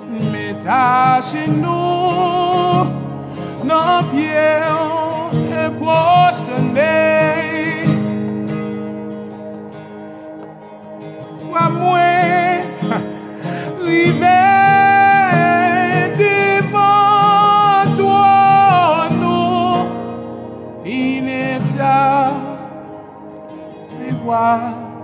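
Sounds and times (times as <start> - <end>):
man singing with vibrato: 0.0 - 8.4, 11.4 - 20.2, 20.8 - 23.1, 23.8 - 25.0
strummed acoustic guitar: 0.0 - 25.0.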